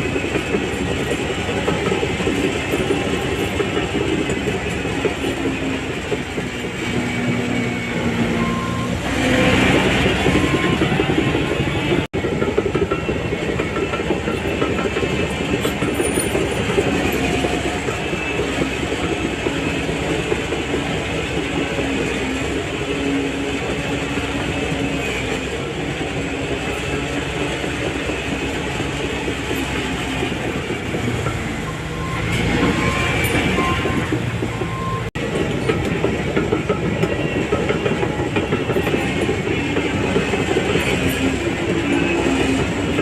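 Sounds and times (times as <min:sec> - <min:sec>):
bulldozer diesel engine: 0:00.0 - 0:43.0
steel tracks clanking: 0:00.0 - 0:43.0.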